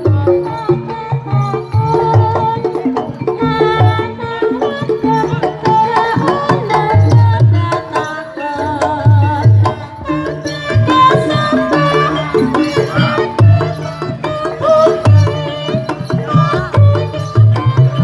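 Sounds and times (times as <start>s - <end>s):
traditional music: 0.0s - 18.0s.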